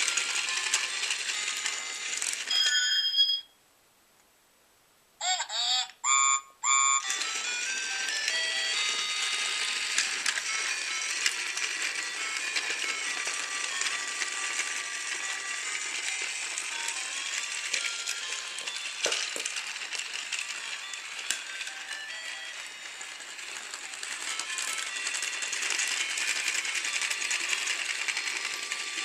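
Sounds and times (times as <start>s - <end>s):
toy train motor rattling: 0.0s - 2.6s, 5.2s - 29.0s.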